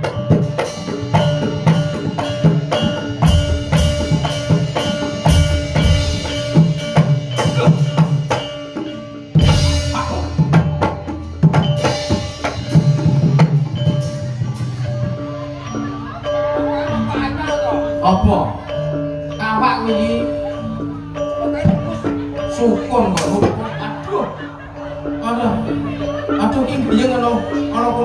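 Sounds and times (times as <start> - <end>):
ringing tuned percussion: 0.0 - 28.0
traditional percussion music: 0.0 - 28.0.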